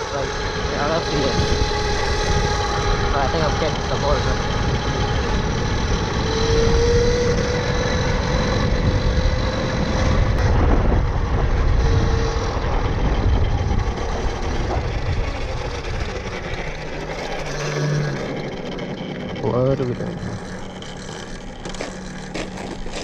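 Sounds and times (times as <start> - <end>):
electric motorbike motor whining: 0.0 - 23.0
wind rumble on microphone: 0.0 - 23.0.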